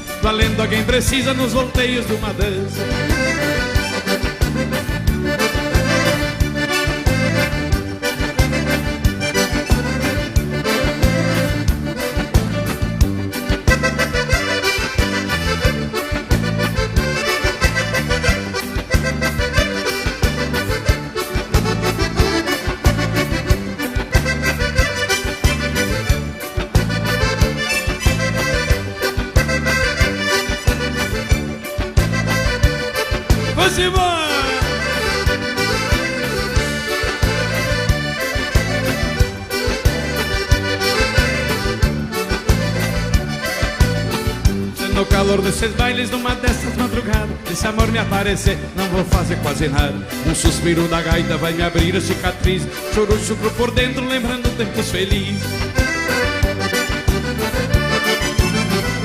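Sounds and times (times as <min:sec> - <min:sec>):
accordion playing: 0:00.0 - 0:59.0
stepping bass notes: 0:00.0 - 0:59.0
steady beat: 0:00.1 - 0:59.0.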